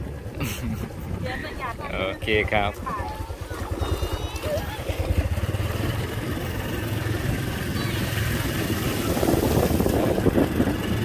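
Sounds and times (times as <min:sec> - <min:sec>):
small motorcycle engine rumbling: 0:00.0 - 0:11.0.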